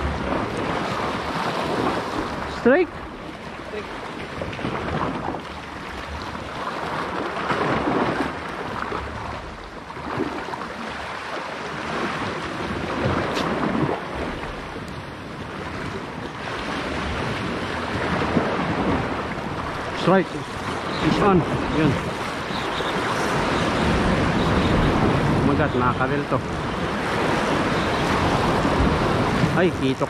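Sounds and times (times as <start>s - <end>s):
waves washing against rocks: 0.0s - 30.0s
wind buffeting microphone: 0.0s - 30.0s.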